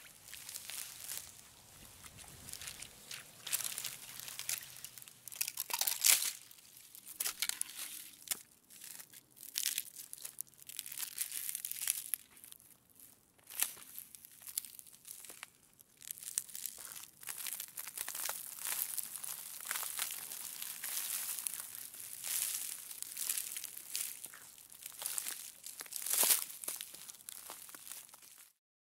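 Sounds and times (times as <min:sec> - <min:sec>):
ice cracking and snapping: 0:02.1 - 0:12.7, 0:13.6 - 0:28.5.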